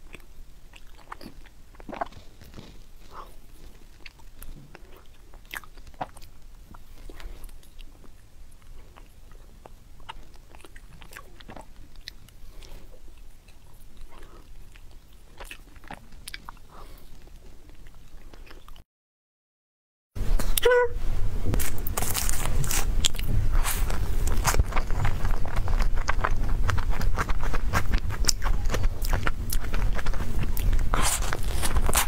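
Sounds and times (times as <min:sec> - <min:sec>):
person chewing: 0:00.0 - 0:18.8, 0:21.6 - 0:32.0.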